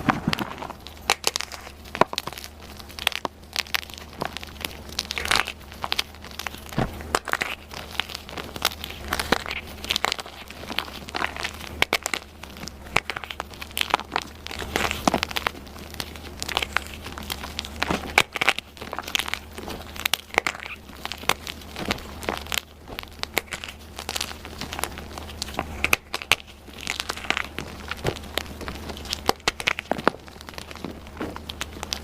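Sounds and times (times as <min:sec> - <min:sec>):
chalk crushing crackles: 0:00.0 - 0:32.0.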